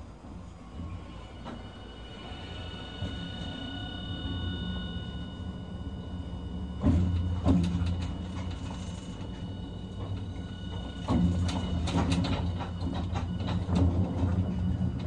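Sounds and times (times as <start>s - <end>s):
high inverter whine: 0.0s - 15.0s
tram wheels rumbling on track: 0.0s - 15.0s.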